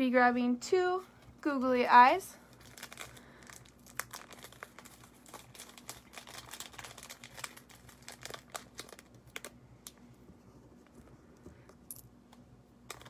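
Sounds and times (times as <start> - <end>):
crinkling craft materials: 1.0 - 13.0.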